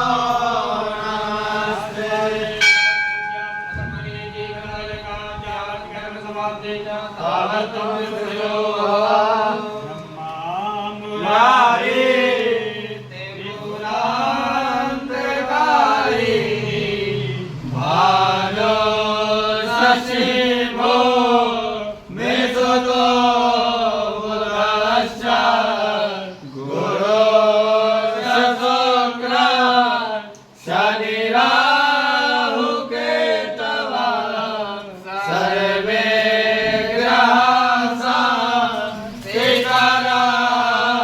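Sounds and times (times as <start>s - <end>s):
person chanting a hymn: 0.0s - 41.0s.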